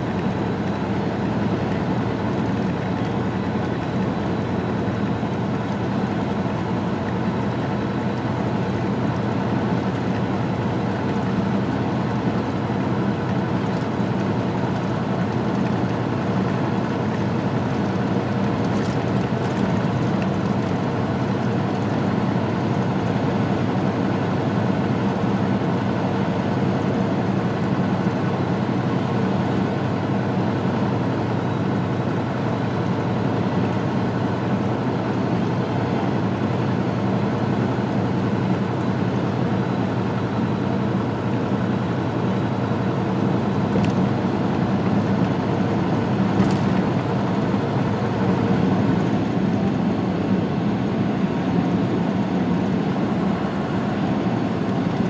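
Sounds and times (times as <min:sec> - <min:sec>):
tyre and road noise: 0:00.0 - 0:24.4, 0:28.6 - 0:55.0
diesel engine drone: 0:00.0 - 0:55.0.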